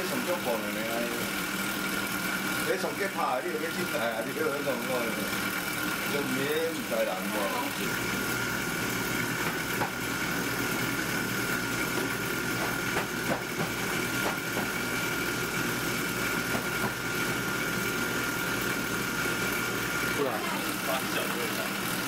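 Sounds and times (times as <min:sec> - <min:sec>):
dough mixer motor hum and whine: 0:00.0 - 0:22.0.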